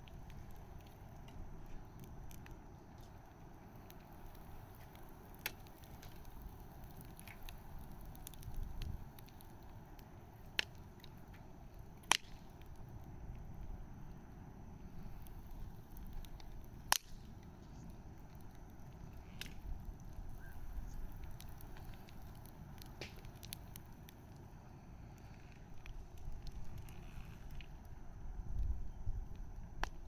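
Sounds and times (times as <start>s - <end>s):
sharp fire pops: 0.0s - 14.2s, 14.8s - 30.0s
bonfire crackling: 0.0s - 30.0s
low fire rumble: 0.0s - 30.0s.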